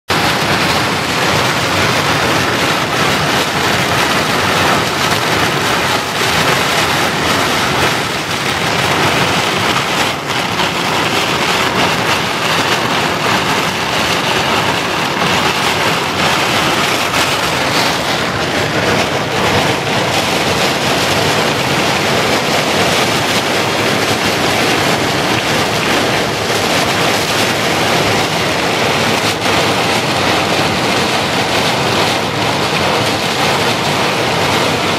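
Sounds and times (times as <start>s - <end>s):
heavy rain on car roof: 0.0s - 34.9s.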